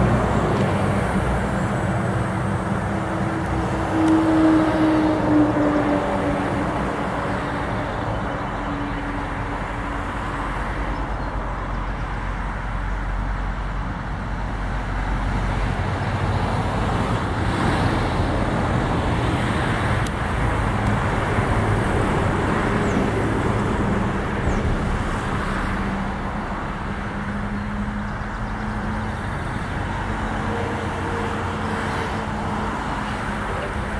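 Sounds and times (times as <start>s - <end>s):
road traffic rumble: 0.0s - 33.9s.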